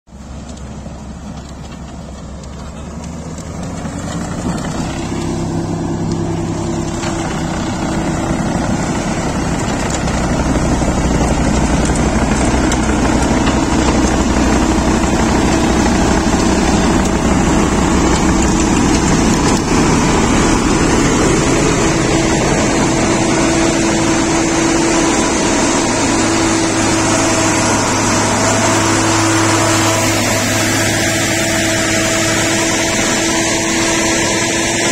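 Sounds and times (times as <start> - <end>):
vehicle engine rumbling: 0.1 - 34.9.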